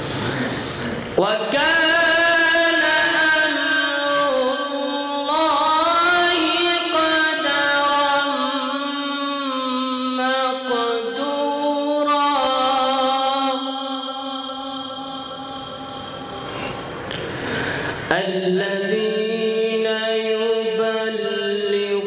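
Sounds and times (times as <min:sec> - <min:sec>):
man reciting melodically: 0:01.2 - 0:16.5, 0:18.0 - 0:22.0.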